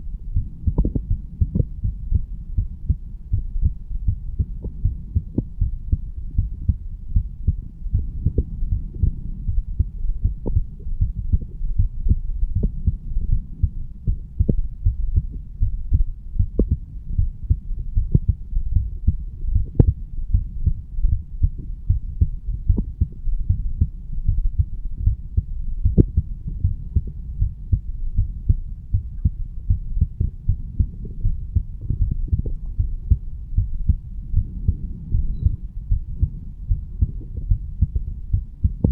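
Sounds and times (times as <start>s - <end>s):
heartbeat thuds: 0.0s - 38.9s.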